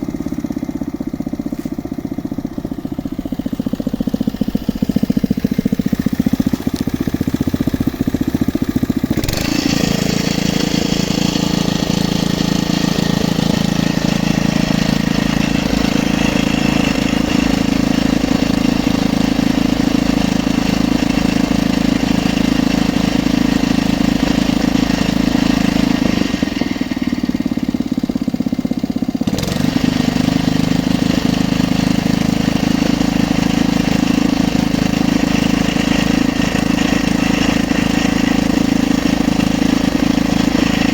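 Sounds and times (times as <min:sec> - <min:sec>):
drilling rig engine running: 0:00.0 - 0:27.8, 0:28.9 - 0:40.9.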